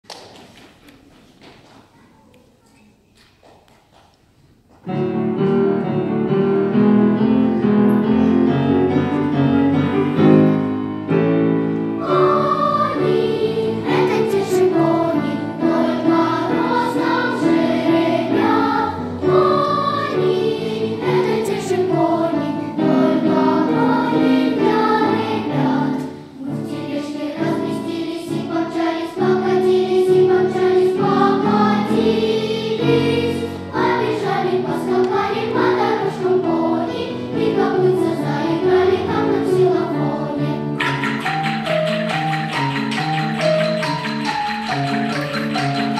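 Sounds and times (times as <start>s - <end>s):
piano accompaniment: 4.8s - 45.9s
children's choir singing: 4.9s - 45.9s.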